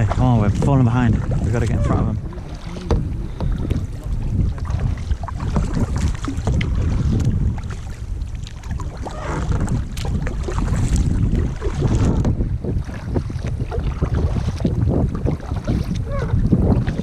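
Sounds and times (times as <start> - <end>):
paddles splashing in water: 0.0 - 17.0
wind noise on microphone: 0.0 - 17.0.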